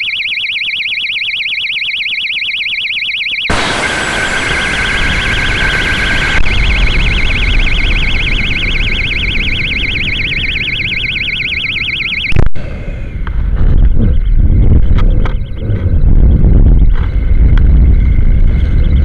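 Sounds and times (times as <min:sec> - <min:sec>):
warbling electronic siren: 0:00.0 - 0:19.0
rushing wind noise: 0:03.5 - 0:19.0.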